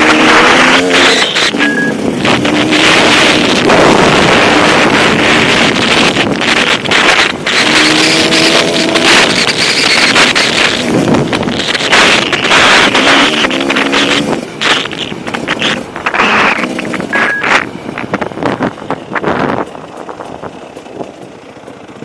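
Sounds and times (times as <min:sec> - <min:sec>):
motorcycle engine running: 0:00.0 - 0:22.0
wind buffeting microphone: 0:01.4 - 0:22.0.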